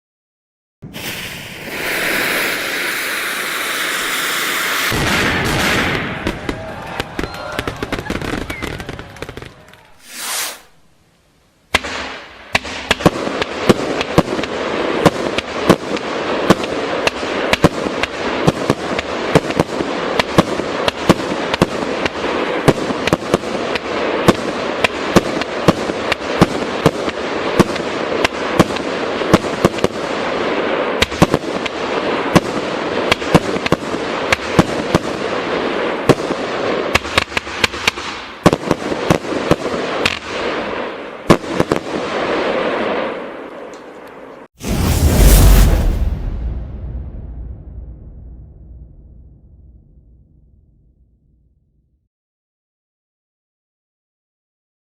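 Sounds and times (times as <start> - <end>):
firework crackle and bangs: 0.8 - 10.9, 11.7 - 43.4, 44.5 - 51.1.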